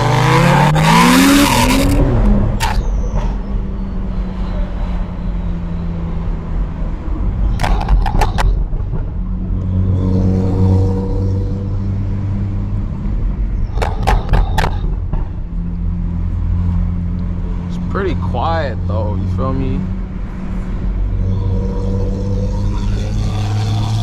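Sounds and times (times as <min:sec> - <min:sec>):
car exhaust note while driving: 0:00.0 - 0:24.0.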